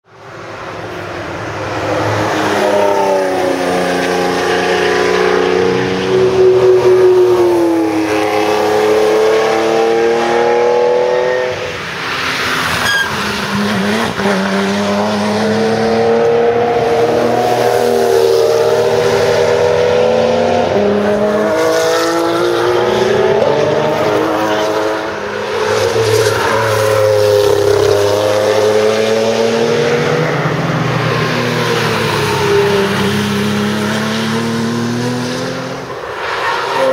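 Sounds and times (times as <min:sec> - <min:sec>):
racing car engines accelerating: 0:01.2 - 0:36.9.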